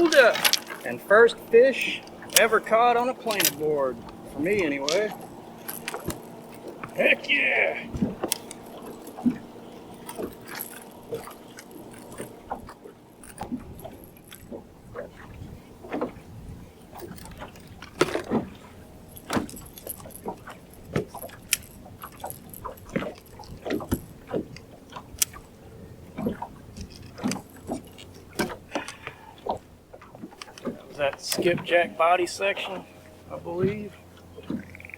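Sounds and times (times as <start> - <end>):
faint steady hum: 0.0 - 34.9
fishing tackle clicks and rattles: 0.0 - 34.9.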